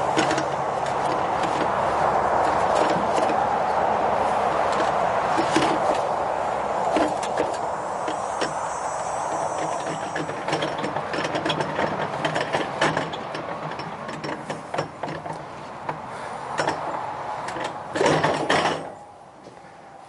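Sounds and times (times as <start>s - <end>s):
wheelbarrow clatter: 0.0s - 3.5s, 4.7s - 6.2s, 6.8s - 19.0s
wheelbarrow rattling and clicking: 0.0s - 3.5s, 4.5s - 6.2s, 6.8s - 8.6s, 9.3s - 19.0s.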